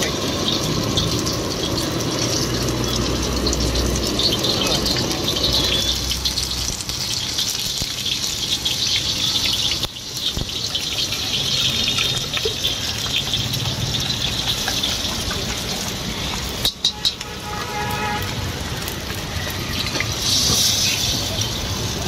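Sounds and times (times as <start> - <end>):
eggs sizzling in hot oil: 0.0 - 22.0
oil popping and crackling: 0.0 - 22.0.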